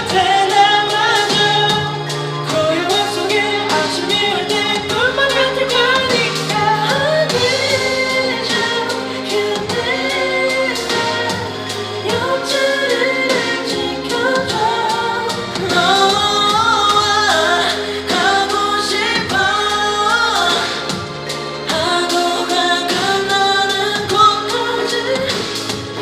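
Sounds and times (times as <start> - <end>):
harmony vocals: 0.0 - 26.0
man singing lead vocals: 0.0 - 26.0
pop-rock band song: 0.0 - 26.0.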